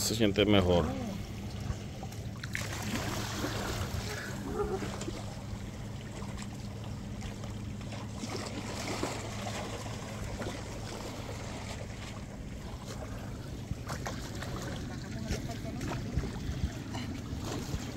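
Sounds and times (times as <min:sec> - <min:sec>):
small waves lapping: 0:00.0 - 0:17.9
steady low hum: 0:00.0 - 0:17.9.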